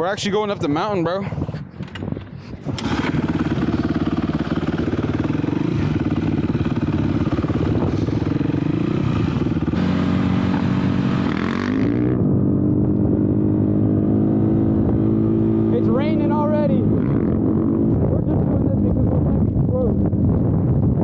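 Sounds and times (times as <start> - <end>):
dirt bike engine running: 2.7 - 21.0.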